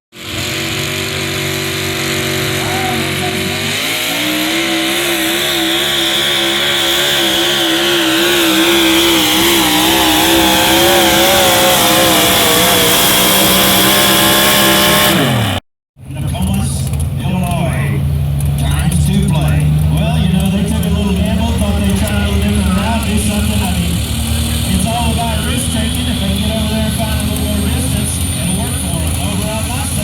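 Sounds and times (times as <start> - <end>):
vehicle engine revving: 0.1 - 30.0.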